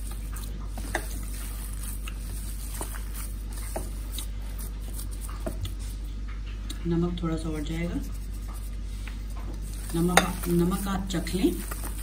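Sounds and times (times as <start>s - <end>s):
fingers squishing wet mash: 0.0s - 6.8s, 7.4s - 12.0s
steady low hum: 0.0s - 12.0s.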